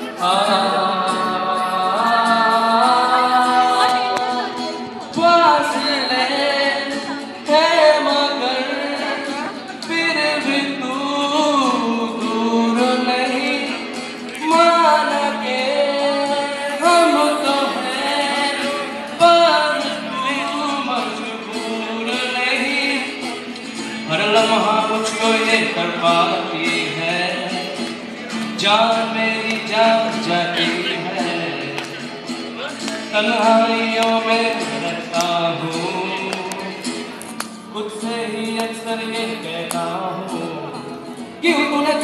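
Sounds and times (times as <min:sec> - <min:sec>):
acoustic guitar: 0:00.0 - 0:42.0
man singing into a microphone: 0:00.0 - 0:42.0.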